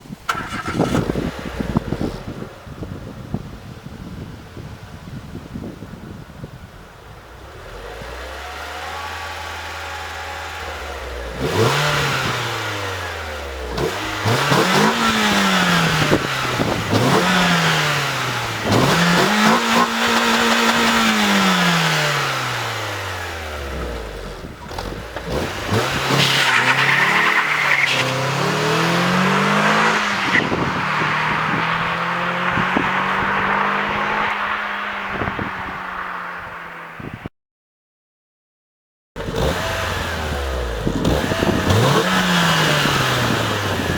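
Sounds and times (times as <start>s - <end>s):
car engine idling and revving: 0.0s - 37.3s, 39.2s - 43.9s.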